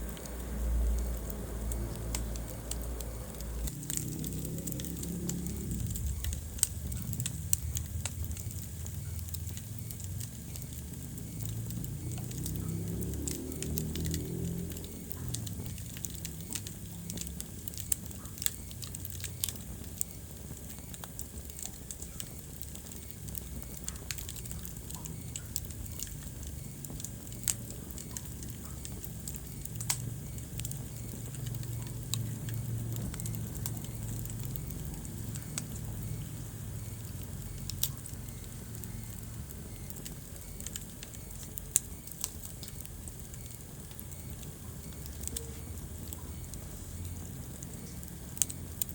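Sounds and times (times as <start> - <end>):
fire crackling and popping: 0.0 - 48.9
low rumble of flames: 0.0 - 48.9.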